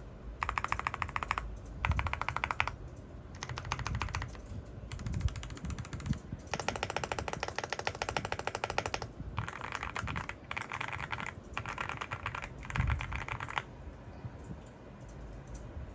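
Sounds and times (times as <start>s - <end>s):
mechanical keyboard typing: 0.4s - 13.7s.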